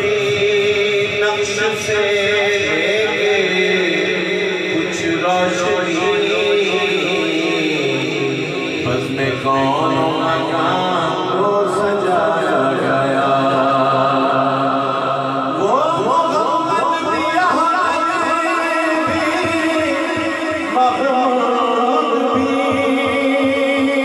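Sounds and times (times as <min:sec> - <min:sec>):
man chanting devotional poem: 0:00.0 - 0:24.0.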